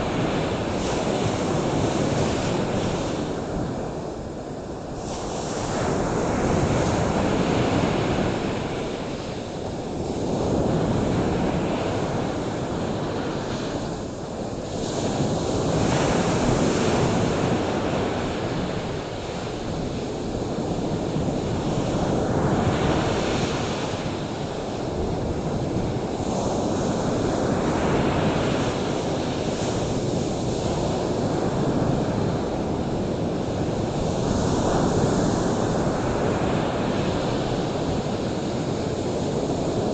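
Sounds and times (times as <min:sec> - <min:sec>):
waves breaking: 0:00.0 - 0:39.9
wind buffeting microphone: 0:00.0 - 0:39.9.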